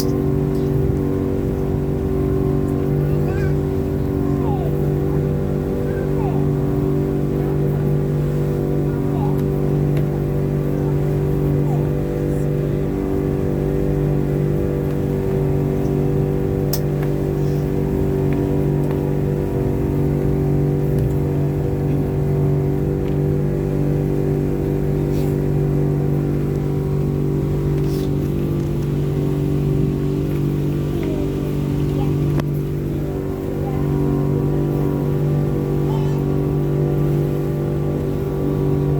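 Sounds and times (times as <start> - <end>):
outboard boat engine droning: 0.0 - 38.9.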